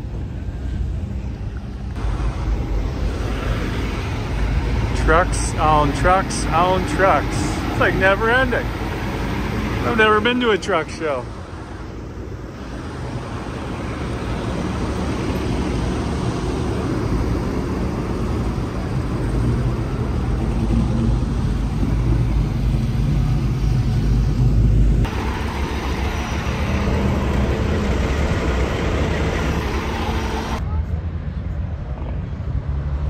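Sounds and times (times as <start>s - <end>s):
heavy truck engines rumbling: 0.0s - 33.0s.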